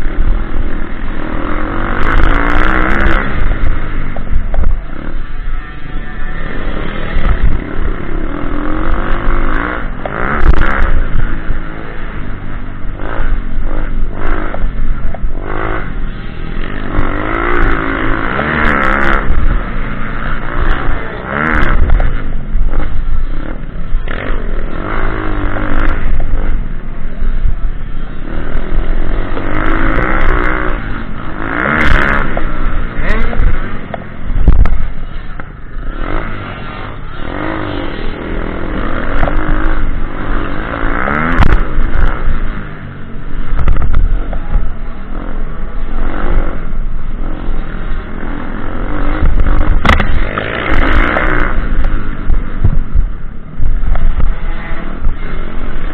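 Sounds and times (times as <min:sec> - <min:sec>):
pit bike engine revving: 0:00.0 - 0:55.9.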